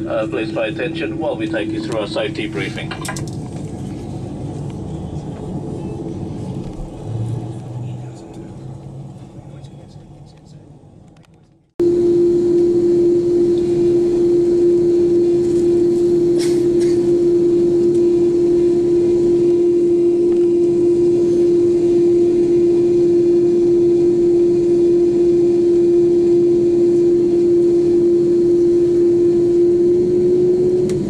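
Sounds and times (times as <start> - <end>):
jet engines from inside cabin: 0.0 - 31.0.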